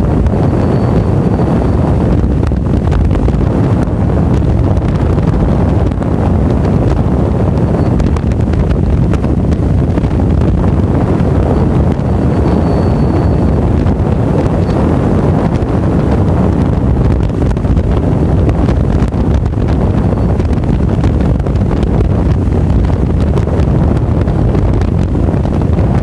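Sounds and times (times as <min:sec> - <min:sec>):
motorcycle engine running: 0:00.0 - 0:26.0
road noise: 0:00.0 - 0:26.0
wind buffeting microphone: 0:00.0 - 0:26.0.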